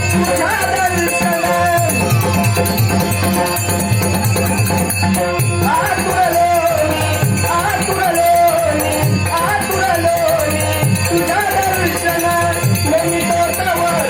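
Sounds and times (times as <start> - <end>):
man singing: 0.0 - 3.5, 5.3 - 14.0
held accompanying tone: 0.0 - 14.0
small jingling cymbals: 0.0 - 14.0
steady drum beat: 0.0 - 14.0.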